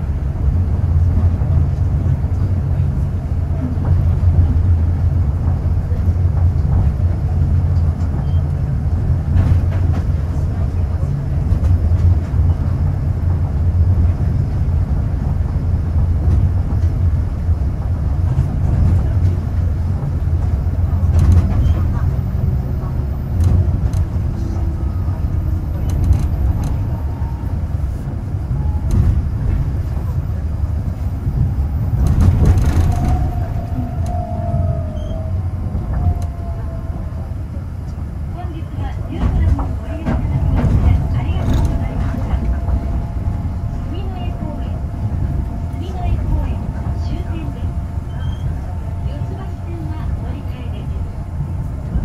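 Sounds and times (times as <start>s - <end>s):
train running rumble: 0.0s - 52.0s.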